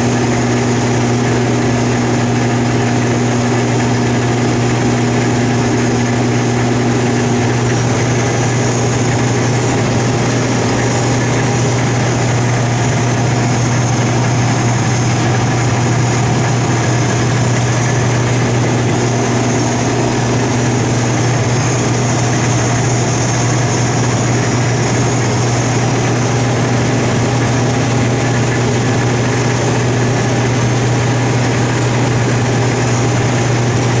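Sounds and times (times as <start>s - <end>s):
combine harvester engine drone: 0.0s - 34.0s
high whine: 0.0s - 34.0s.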